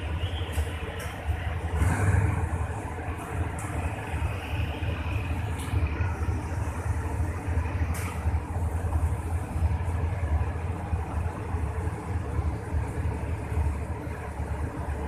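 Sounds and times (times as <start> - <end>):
diesel train engine rumbling: 0.0 - 15.0.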